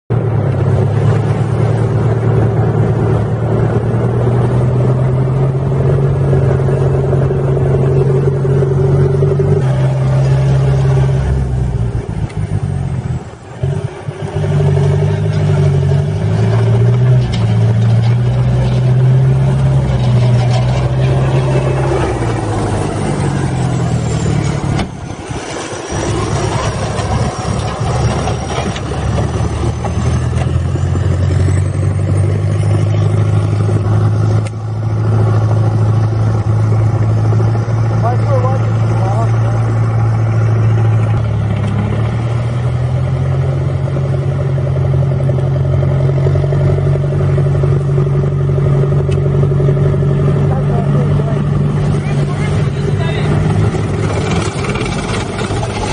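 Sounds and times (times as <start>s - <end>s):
vehicle engine running under load: 0.1s - 55.9s.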